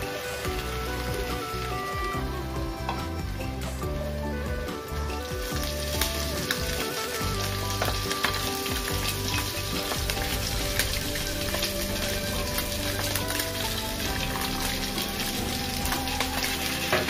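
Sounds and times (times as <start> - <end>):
masala sizzling and crackling: 0.0 - 17.0.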